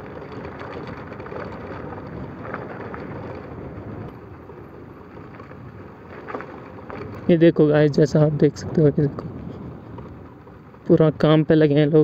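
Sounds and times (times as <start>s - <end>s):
tyres rolling on rough ground: 0.0s - 12.0s
wind rushing over microphone: 0.0s - 12.0s.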